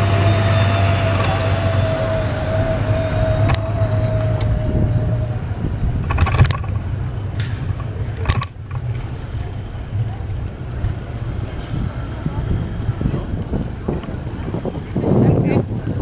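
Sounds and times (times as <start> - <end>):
steady whine: 0.0 - 15.1
bicycle rattles and clicks: 0.0 - 16.0
bicycle riding rumble: 0.0 - 16.0
wind on microphone: 0.0 - 16.0.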